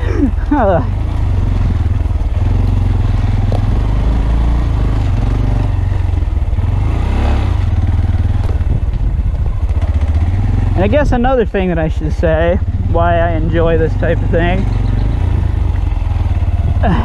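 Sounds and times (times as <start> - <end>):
heavy low rumble: 0.0 - 17.0
small motorcycle engine running: 0.0 - 17.0.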